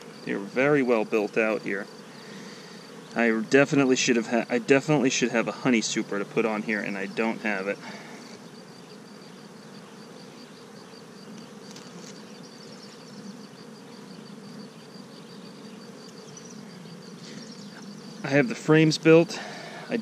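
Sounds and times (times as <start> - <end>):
bees humming: 0.0 - 20.0.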